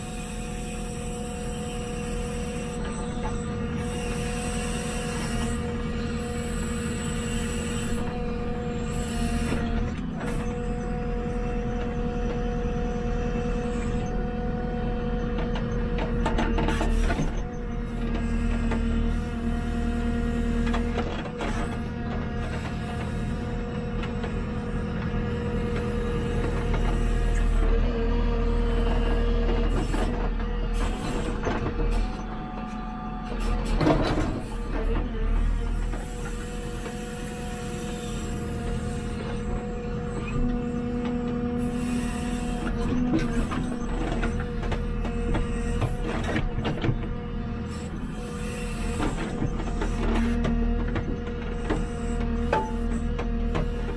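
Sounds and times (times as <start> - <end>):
diesel engine under load: 0.0 - 53.9
hydraulics whining: 0.0 - 53.9.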